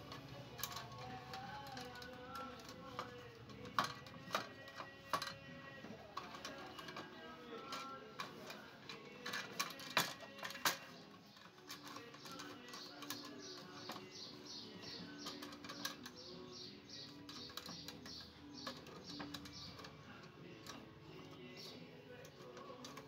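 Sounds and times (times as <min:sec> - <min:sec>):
metal lantern clinking and rattling: 0:00.0 - 0:23.0.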